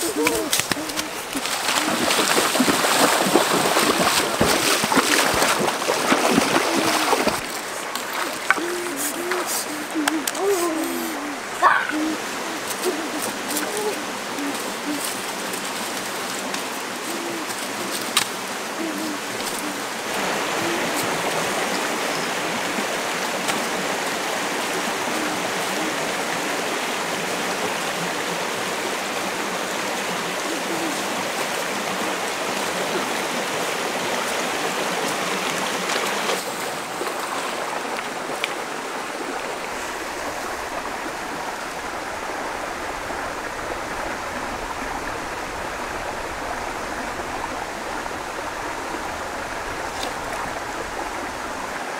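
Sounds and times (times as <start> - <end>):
stream rushing: 0.0 - 51.9.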